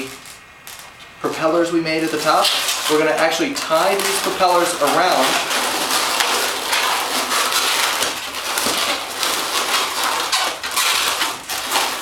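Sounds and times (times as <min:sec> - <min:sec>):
balloons squeaking and rubbing: 0:01.2 - 0:12.0.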